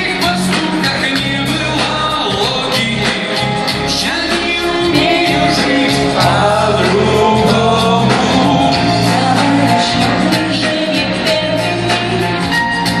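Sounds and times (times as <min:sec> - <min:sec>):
held bass notes: 0:00.0 - 0:13.0
person singing: 0:00.0 - 0:13.0
regular drum beat: 0:00.0 - 0:13.0.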